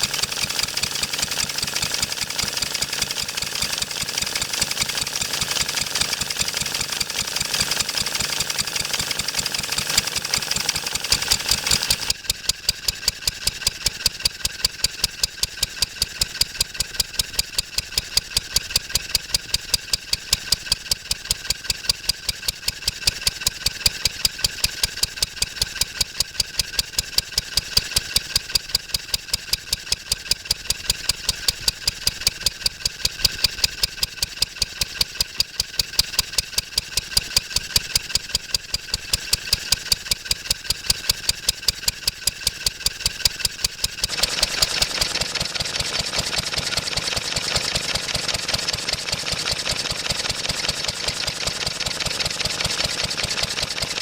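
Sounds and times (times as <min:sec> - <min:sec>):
stationary engine running: 0:00.0 - 0:54.0.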